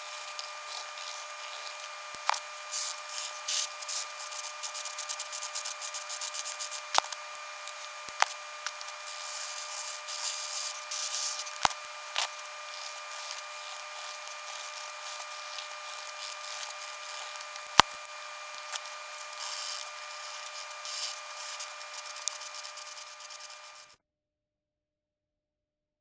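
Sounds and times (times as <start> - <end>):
faint steady whine: 0.0 - 24.0
pencil scratching on paper: 0.1 - 7.1, 7.8 - 17.6, 18.5 - 23.9.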